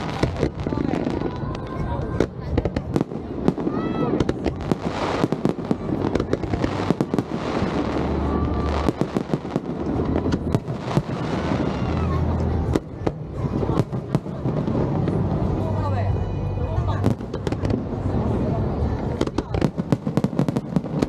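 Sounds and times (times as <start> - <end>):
deep fireworks booms: 0.0 - 15.8, 16.8 - 21.0
fireworks bangs and crackles: 0.0 - 21.0.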